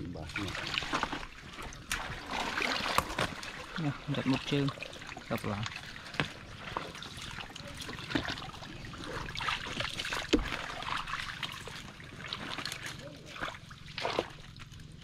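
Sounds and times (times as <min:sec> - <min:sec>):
water trickling and splashing: 0:00.0 - 0:15.0
wet mud squelching: 0:00.3 - 0:15.0.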